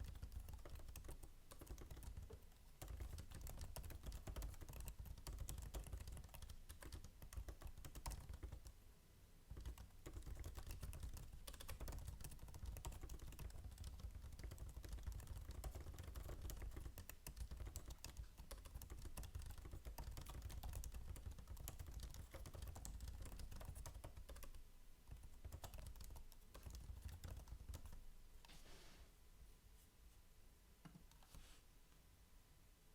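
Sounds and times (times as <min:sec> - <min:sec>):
fast typing on laptop keyboard: 0:00.0 - 0:08.8, 0:09.5 - 0:28.0.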